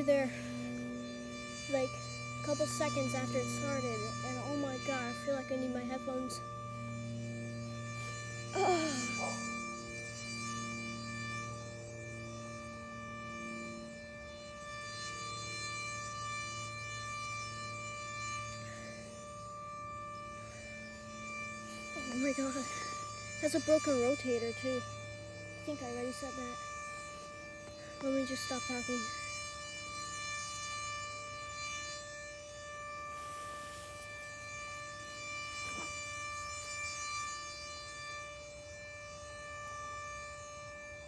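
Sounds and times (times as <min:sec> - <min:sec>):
warning siren steady pitch: 0:00.0 - 0:41.0.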